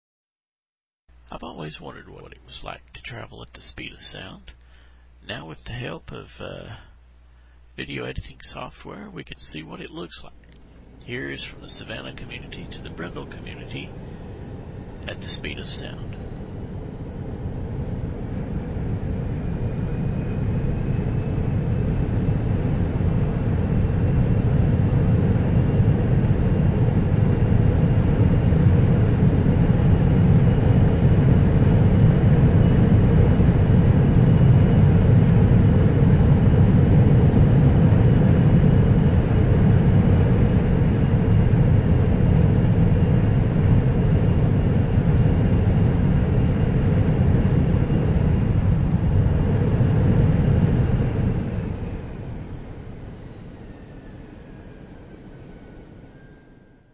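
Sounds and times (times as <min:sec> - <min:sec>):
faint high whine: 0:01.1 - 0:56.9
jet engine rumble: 0:01.1 - 0:56.9.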